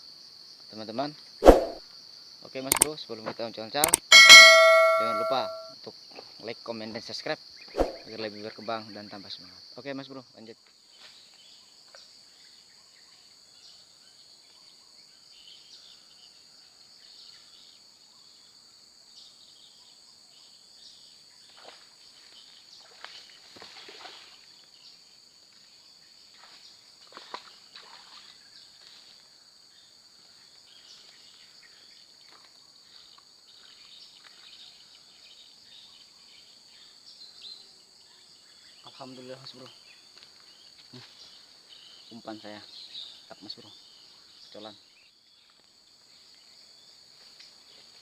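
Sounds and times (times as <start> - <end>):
crickets chirping: 0.0 - 5.0, 5.8 - 48.0.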